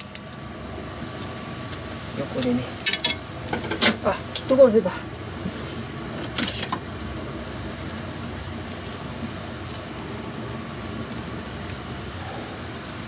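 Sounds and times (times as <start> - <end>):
kitchen hum: 0.0 - 13.0.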